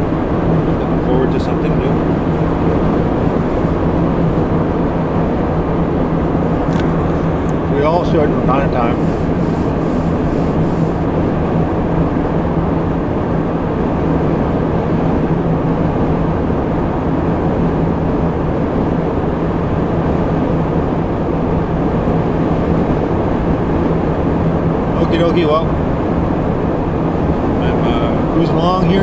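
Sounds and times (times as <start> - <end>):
car road and engine noise: 0.0 - 29.0
low hum: 0.0 - 29.0.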